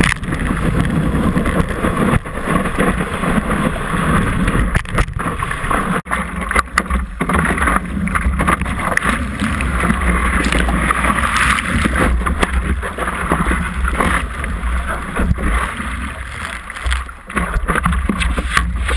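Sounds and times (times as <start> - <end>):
water splashing and rushing: 0.0 - 18.9.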